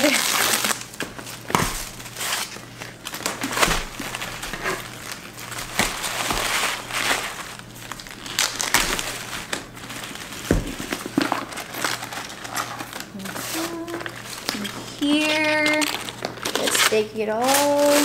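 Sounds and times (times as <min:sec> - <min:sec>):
packaging wrap crinkling: 0:00.0 - 0:18.0.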